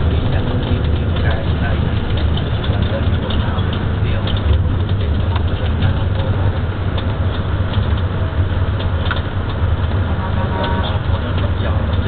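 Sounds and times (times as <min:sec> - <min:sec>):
bus engine rumbling: 0:00.0 - 0:12.0
faint rattles: 0:00.0 - 0:12.0
road noise: 0:00.0 - 0:12.0.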